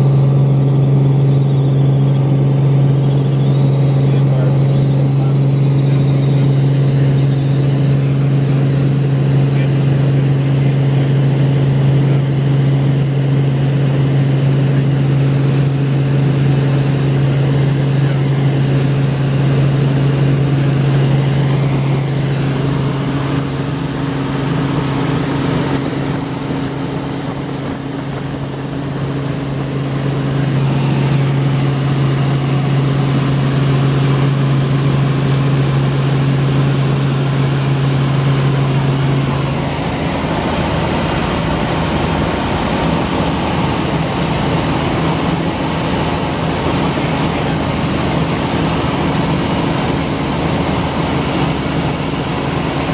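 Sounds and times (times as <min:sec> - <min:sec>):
helicopter rotor and engine drone: 0:00.0 - 0:52.9.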